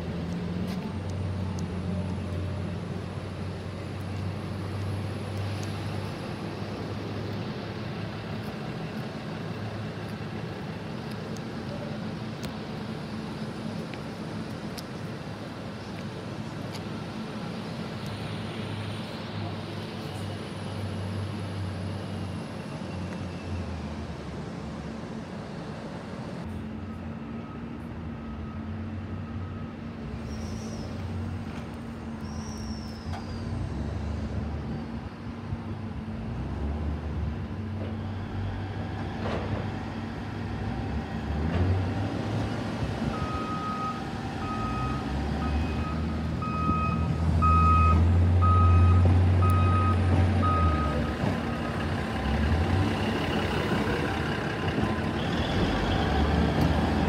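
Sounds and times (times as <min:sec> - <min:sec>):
diesel railcar engines: 0:00.0 - 0:57.0.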